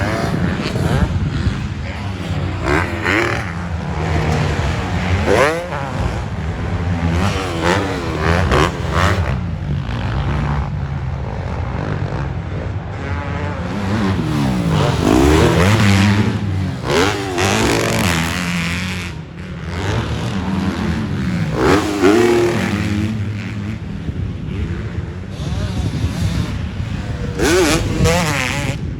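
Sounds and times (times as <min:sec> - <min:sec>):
motocross bike engines revving: 0:00.0 - 0:28.9.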